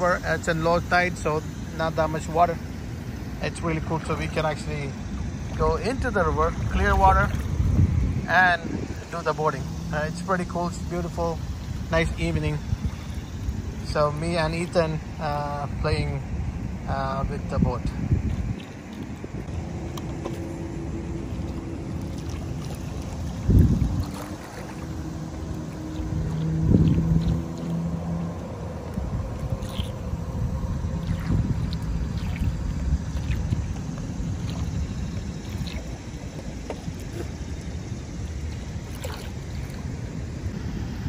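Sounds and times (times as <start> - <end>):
propellers churning water: 0.0 - 41.0
wind buffeting microphone: 0.0 - 41.0.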